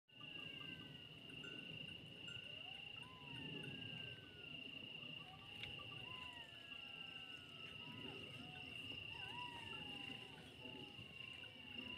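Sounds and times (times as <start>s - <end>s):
cricket trill: 0.1s - 11.9s
distant jackals howling: 0.1s - 11.9s.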